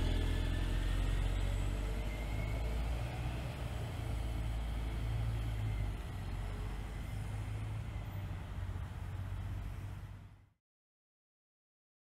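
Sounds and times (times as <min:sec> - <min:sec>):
bus pulling away: 0:00.0 - 0:10.5
car approaching: 0:00.0 - 0:10.6.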